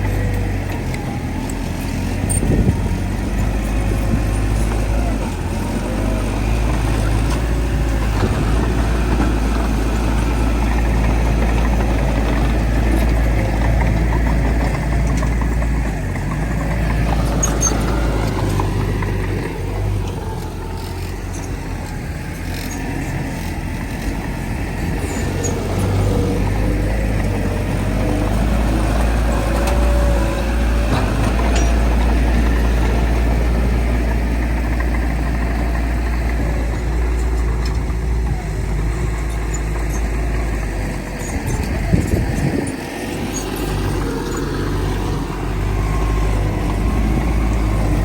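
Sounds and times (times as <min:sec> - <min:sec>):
heavy diesel machinery running: 0:00.0 - 0:48.0.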